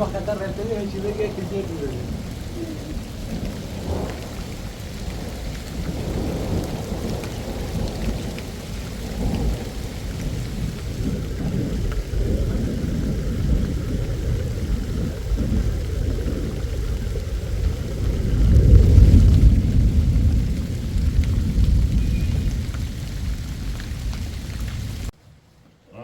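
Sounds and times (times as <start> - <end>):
raindrop ticks: 0.0 - 25.1
wind gusting rumble: 0.0 - 25.1.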